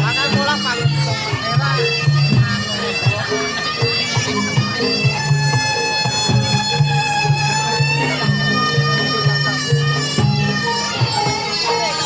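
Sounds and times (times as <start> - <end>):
drum strokes: 0.0 - 12.0
shawm melody: 0.0 - 12.0.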